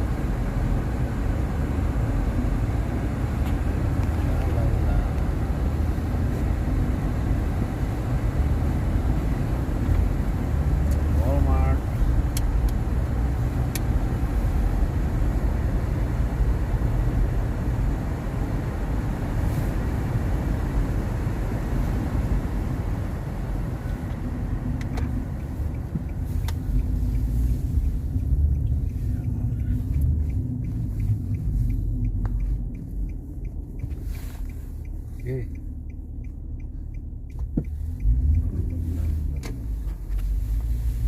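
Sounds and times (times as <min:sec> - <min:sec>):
car engine rumble: 0:00.0 - 0:41.0.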